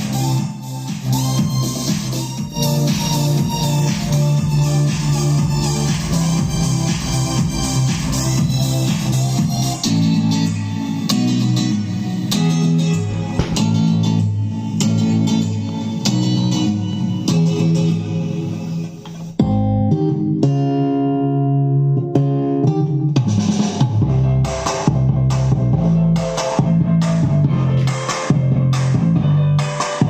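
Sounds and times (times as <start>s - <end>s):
guitar music with steady beat: 0.0s - 29.6s.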